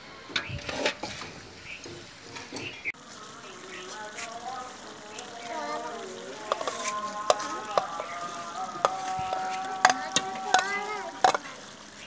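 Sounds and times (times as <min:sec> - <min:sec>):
chicken sizzling in a pot: 0:00.3 - 0:12.0.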